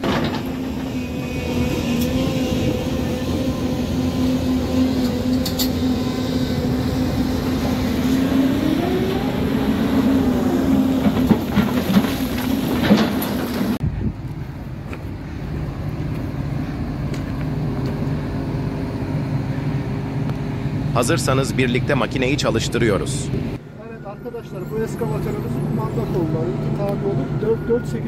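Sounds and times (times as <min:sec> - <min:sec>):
excavator engine and hydraulic hum: 0:00.0 - 0:28.0.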